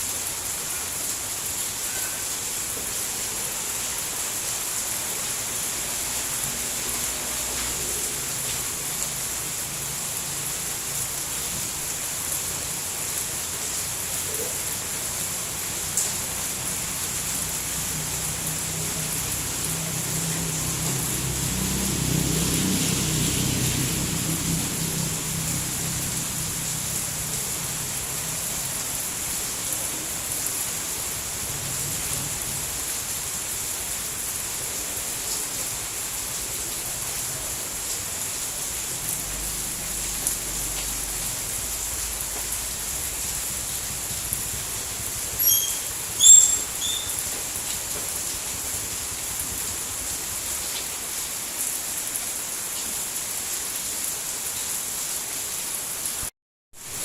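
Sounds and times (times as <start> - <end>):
dense rainfall hiss: 0.0 - 57.0.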